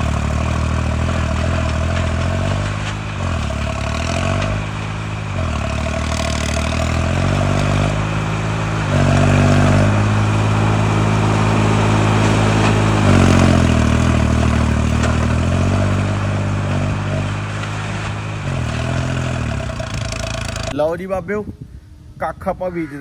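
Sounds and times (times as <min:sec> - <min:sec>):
tractor diesel engine running: 0:00.0 - 0:20.8
rotavator working soil: 0:00.0 - 0:20.9.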